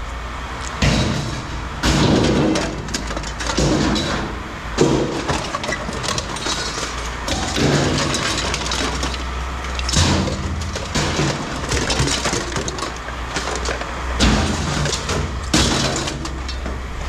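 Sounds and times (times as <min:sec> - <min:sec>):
steady low hum: 0:00.0 - 0:17.0
scrap metal clanking and clattering: 0:00.8 - 0:17.0.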